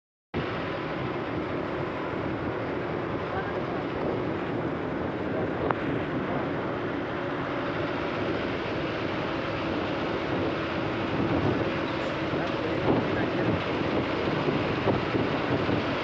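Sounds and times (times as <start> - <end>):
highway traffic noise: 0.4 - 16.0
wind on microphone: 0.4 - 16.0.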